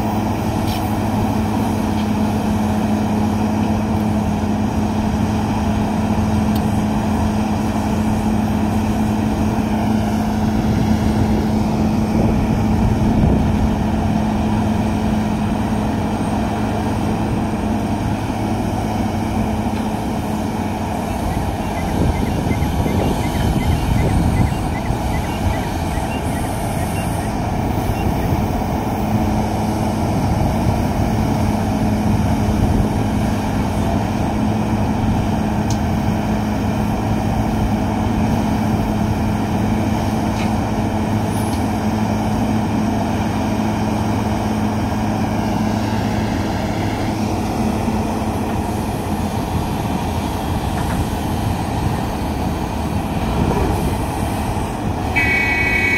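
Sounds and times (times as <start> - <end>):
heavy diesel engines rumbling: 0.0 - 55.9.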